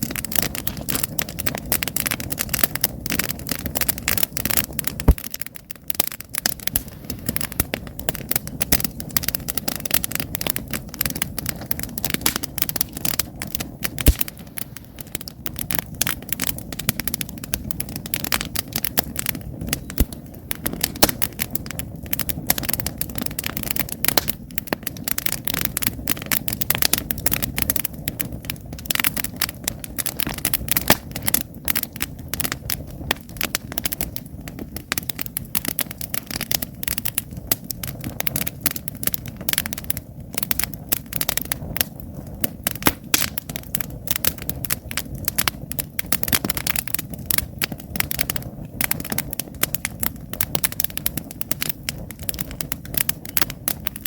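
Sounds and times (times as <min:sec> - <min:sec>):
campfire crackling and popping: 0:00.0 - 0:54.0
low rush of flames: 0:00.0 - 0:54.0.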